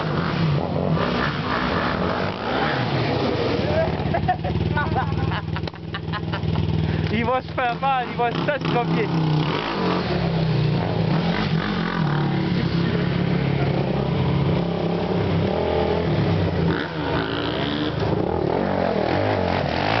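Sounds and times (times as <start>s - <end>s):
quad engine revving: 0.0s - 20.0s.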